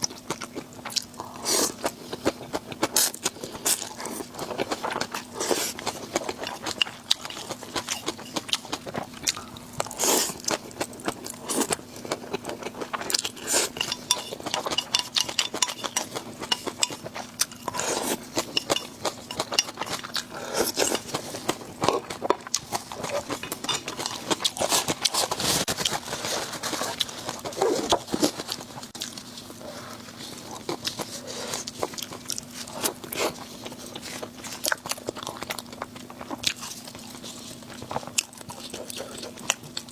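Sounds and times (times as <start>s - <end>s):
faint steady hum: 0.0s - 39.9s
person chewing crunchy food: 0.0s - 39.9s.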